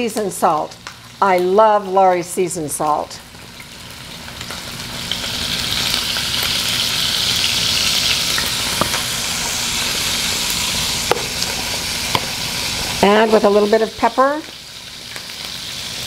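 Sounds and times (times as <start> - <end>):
chicken sizzling in a skillet: 0.0 - 16.0.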